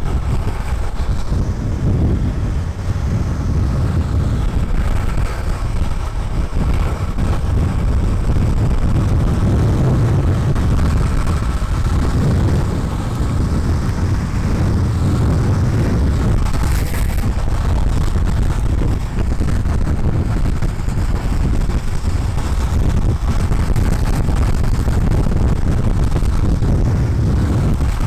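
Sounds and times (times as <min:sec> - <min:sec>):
skateboard wheels rolling on asphalt: 0:00.0 - 0:28.0
wind rushing over microphone: 0:00.0 - 0:28.0.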